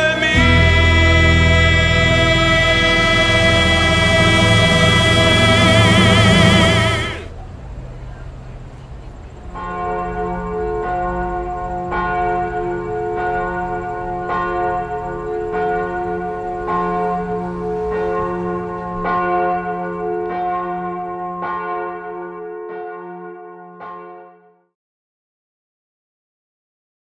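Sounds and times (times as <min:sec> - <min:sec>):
church bell tolling: 0:00.0 - 0:07.4, 0:09.6 - 0:24.6.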